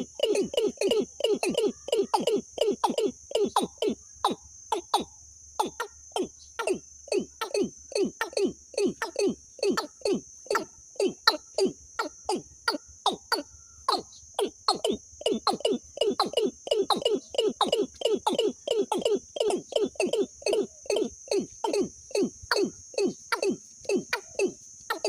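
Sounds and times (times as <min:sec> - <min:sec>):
recorded bird calls: 0:00.0 - 0:25.0.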